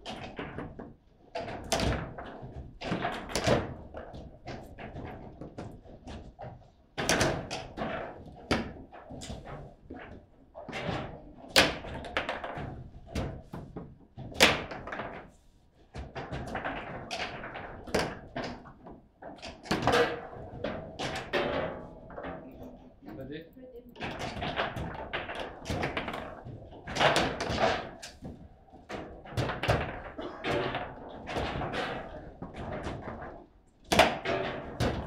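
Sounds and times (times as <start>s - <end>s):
foosball ball and rods clacking: 0.0s - 15.3s, 15.9s - 23.0s, 23.9s - 35.0s.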